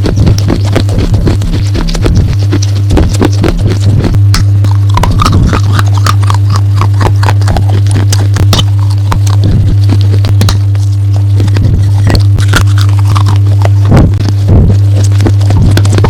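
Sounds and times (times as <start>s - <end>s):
clay being crunched and chewed: 0.0s - 16.0s
loud steady low hum: 0.0s - 16.0s.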